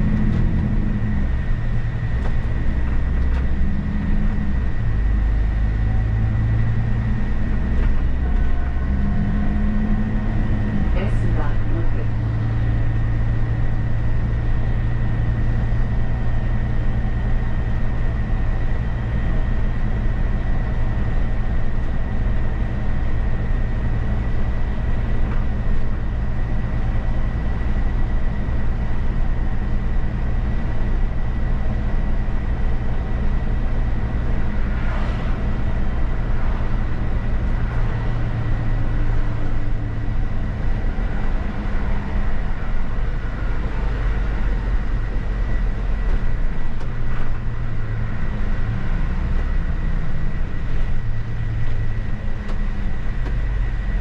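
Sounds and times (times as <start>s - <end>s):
bus engine drone: 0.0s - 54.0s
tyre and road noise: 0.0s - 54.0s.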